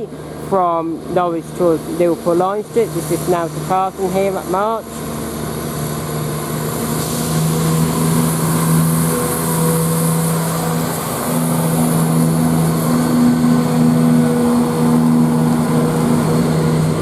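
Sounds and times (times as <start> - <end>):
diesel train engines droning: 0.0 - 17.0.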